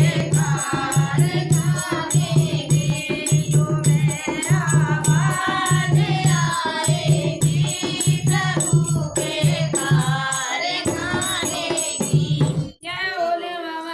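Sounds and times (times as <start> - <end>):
regular drum beat: 0.0 - 12.8
jingling percussion: 0.0 - 13.4
group singing devotional song: 0.0 - 13.9.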